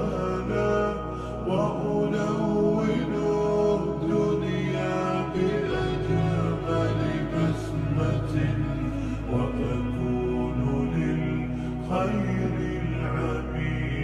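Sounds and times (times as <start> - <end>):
layered voices singing: 0.0 - 14.0
low drone: 0.0 - 14.0.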